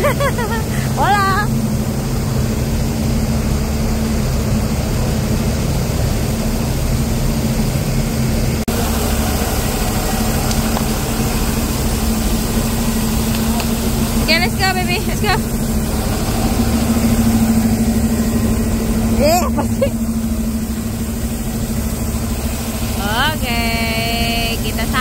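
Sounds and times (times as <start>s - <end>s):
bus engine humming: 0.0s - 25.0s.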